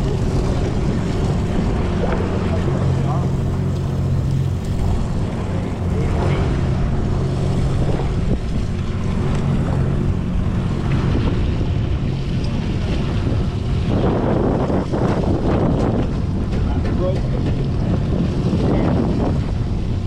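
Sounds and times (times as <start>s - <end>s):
loud rush of noise: 0.0s - 19.4s
boat engine droning: 0.0s - 20.0s
wind and sea noise: 0.0s - 20.0s.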